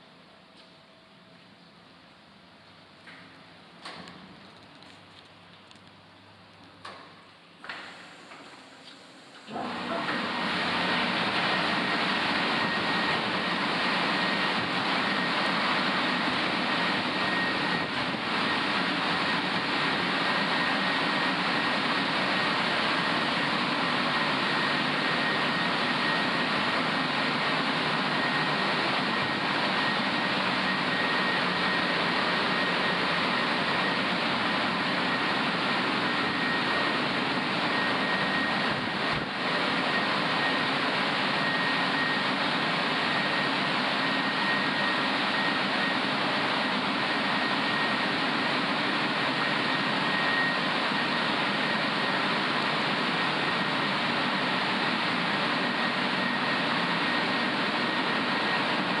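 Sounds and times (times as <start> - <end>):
car wash blow-dryer fans: 6.8 - 59.0.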